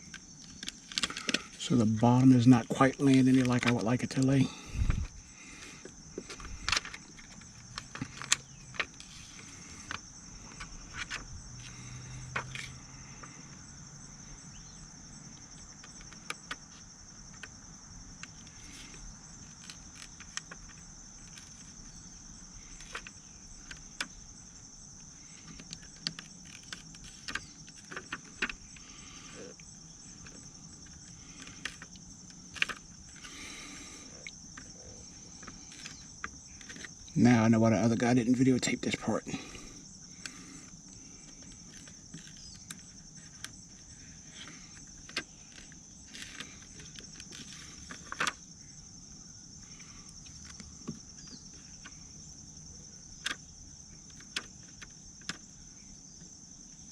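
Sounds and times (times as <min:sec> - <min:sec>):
steady high-pitched hum: 0:00.0 - 0:56.9.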